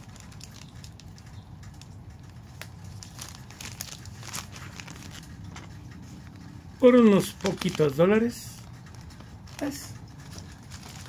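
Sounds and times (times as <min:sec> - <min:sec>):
plastic pouch crinkling: 0:00.0 - 0:06.4, 0:07.0 - 0:11.0.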